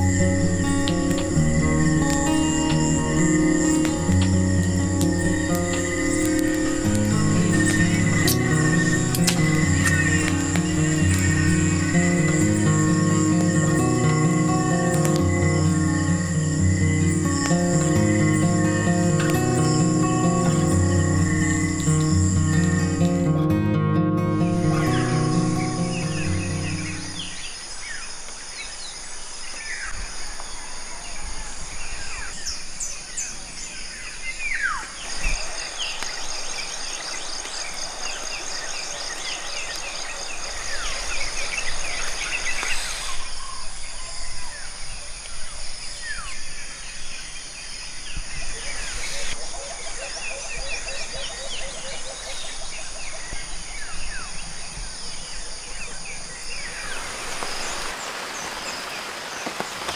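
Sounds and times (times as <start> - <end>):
birds whistling: 0.0 - 23.4, 24.4 - 28.0, 31.9 - 44.7, 47.9 - 58.0
high insect hum: 0.0 - 59.9.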